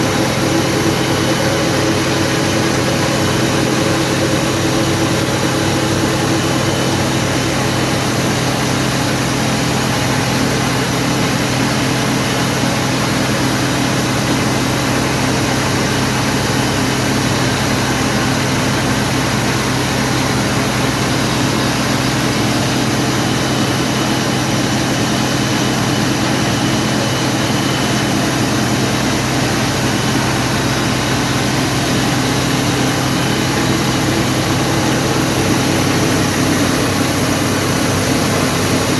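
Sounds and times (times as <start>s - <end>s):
grain cleaning machine humming: 0.0s - 38.9s.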